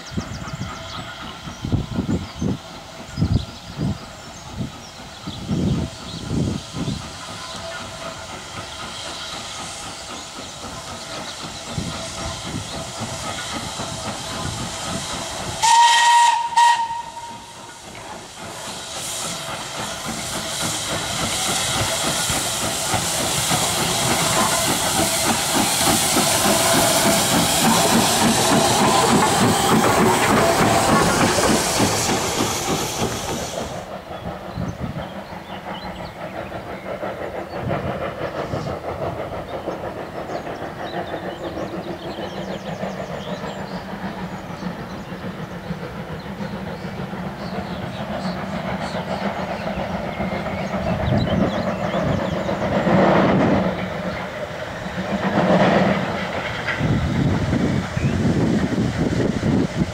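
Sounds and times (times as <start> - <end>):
distant train rumble: 0.0 - 59.9
steam gusts: 0.0 - 59.9
steam hissing: 0.0 - 59.9.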